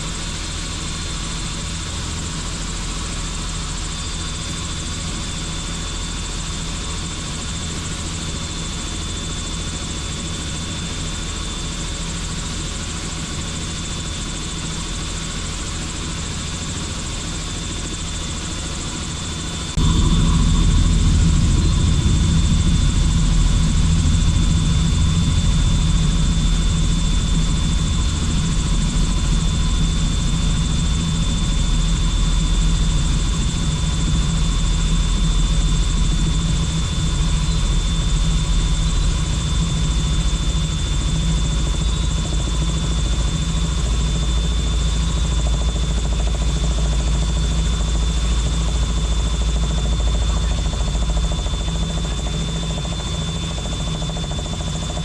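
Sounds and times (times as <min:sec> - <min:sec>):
helicopter rotor drone: 0:00.0 - 0:55.0
turbine whine: 0:00.0 - 0:55.0.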